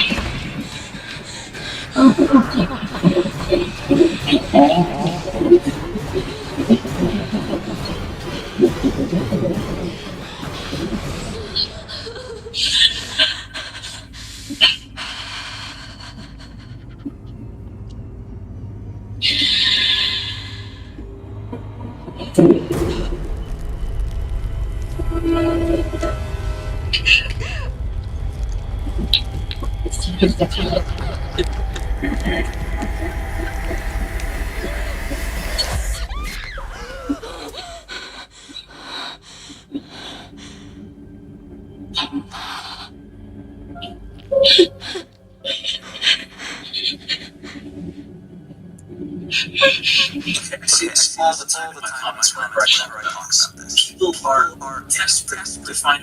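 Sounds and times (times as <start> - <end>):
faint low hum: 0.0 - 51.8.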